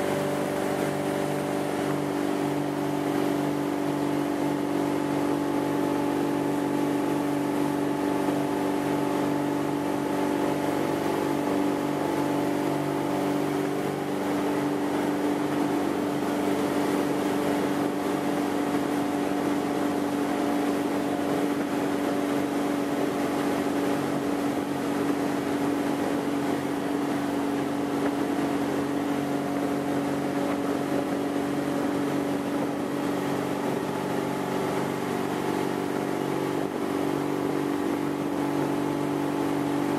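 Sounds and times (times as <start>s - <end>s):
boat engine running: 0.0s - 39.9s
water rushing along hull: 0.0s - 39.9s.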